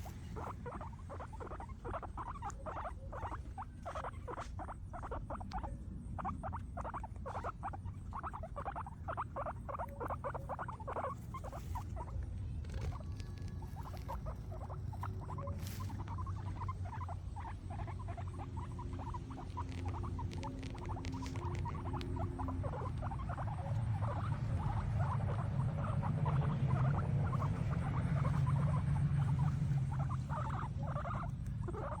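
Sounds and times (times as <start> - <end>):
guinea pigs chewing grass: 0.0 - 32.0.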